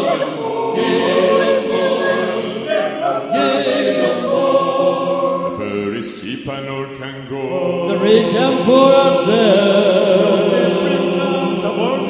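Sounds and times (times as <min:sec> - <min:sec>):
choir singing a cappella: 0:00.0 - 0:06.4, 0:07.4 - 0:12.0.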